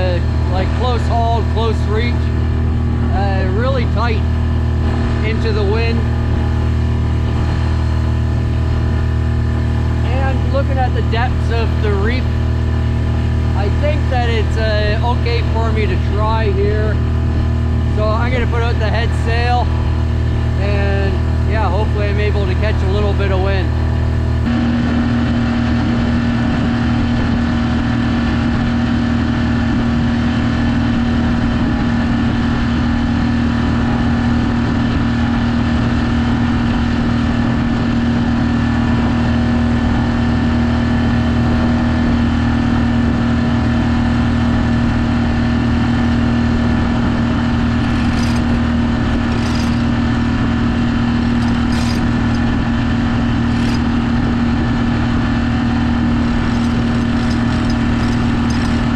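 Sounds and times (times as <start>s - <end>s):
boat motor running: 0.0s - 58.9s.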